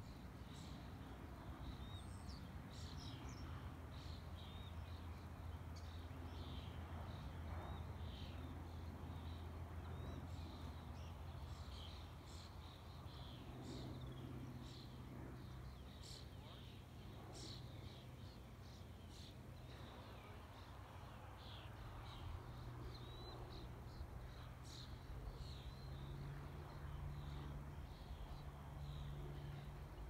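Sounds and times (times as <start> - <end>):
low steady rumble: 0.0 - 30.0.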